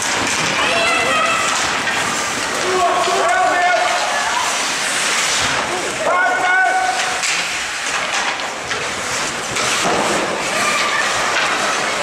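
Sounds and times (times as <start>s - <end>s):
hockey sticks and puck clattering: 0.0s - 12.0s
skates scraping on ice: 0.0s - 12.0s.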